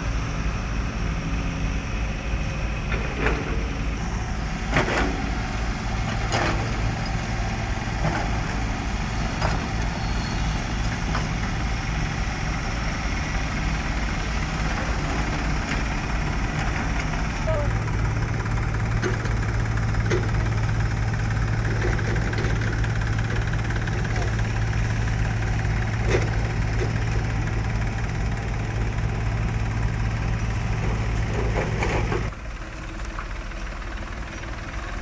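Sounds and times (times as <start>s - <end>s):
heavy machinery diesel engines: 0.0s - 35.0s.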